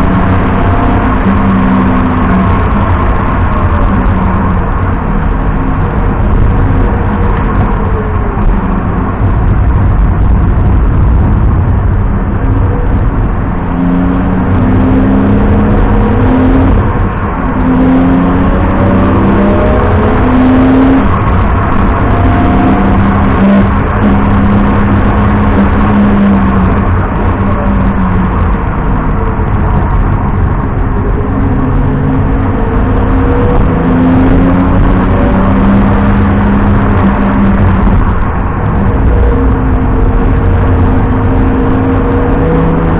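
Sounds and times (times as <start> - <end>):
car engine accelerating through gears: 0.0 - 42.9
road and wind noise: 0.0 - 42.9.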